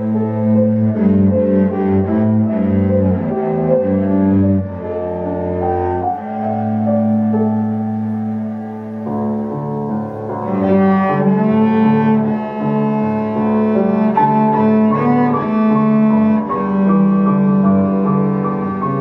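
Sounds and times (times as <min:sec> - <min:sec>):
bowed cello notes: 0:00.0 - 0:19.0
piano accompaniment: 0:00.0 - 0:19.0.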